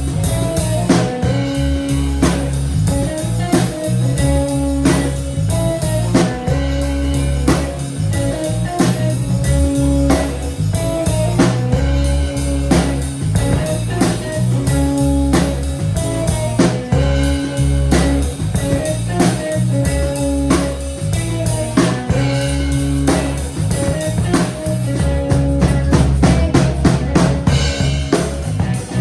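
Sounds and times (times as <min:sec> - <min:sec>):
bass line: 0:00.0 - 0:29.0
drum kit beat: 0:00.0 - 0:29.0
electric guitar: 0:00.0 - 0:29.0.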